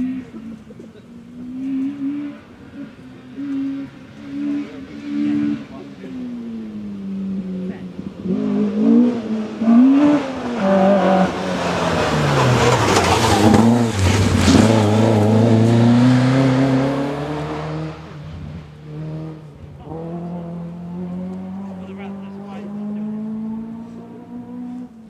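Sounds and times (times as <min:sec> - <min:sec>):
rally car engine revving past: 0:00.0 - 0:25.0.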